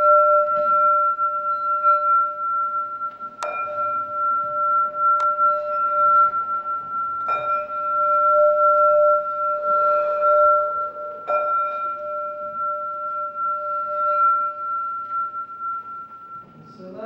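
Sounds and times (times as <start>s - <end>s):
metal singing bowl ringing: 0.0s - 17.0s.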